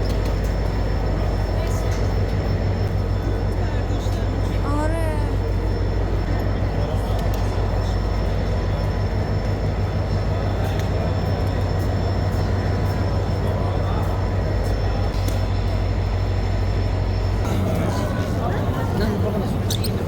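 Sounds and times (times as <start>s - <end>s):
rail carriage rumble: 0.0s - 20.0s.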